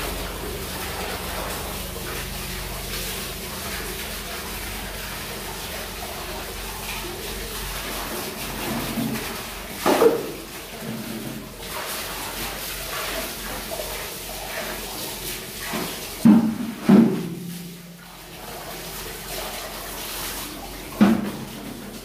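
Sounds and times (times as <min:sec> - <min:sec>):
bucket of water splashing: 0:00.0 - 0:22.0
hose water sloshing in boat: 0:00.0 - 0:22.0.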